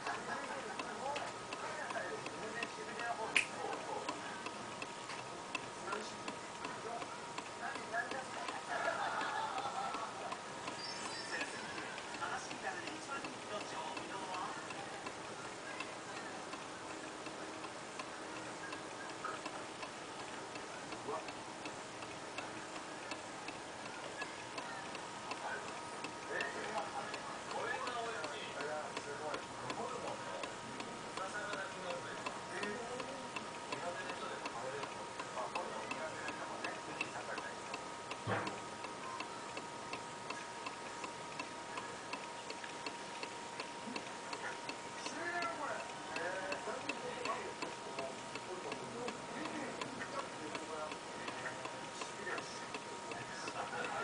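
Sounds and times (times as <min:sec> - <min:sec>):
steady clock-like ticking: 0:00.0 - 0:54.0.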